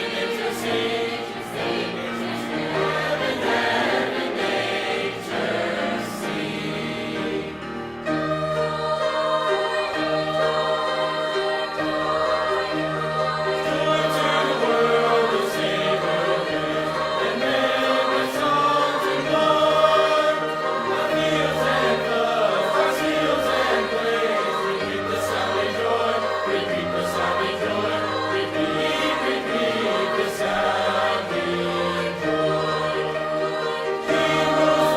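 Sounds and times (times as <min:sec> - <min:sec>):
choir singing in harmony: 0:00.0 - 0:34.9.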